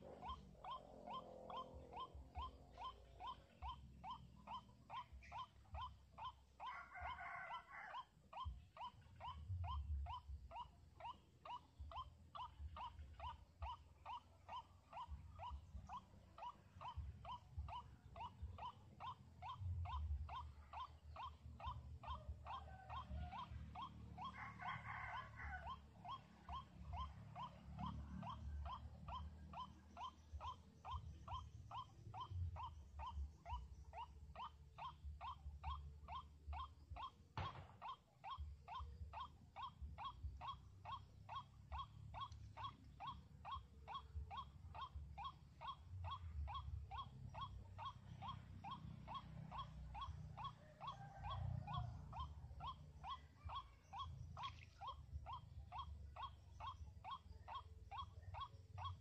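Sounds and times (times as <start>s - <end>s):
waterhen calling: 0.0s - 59.0s.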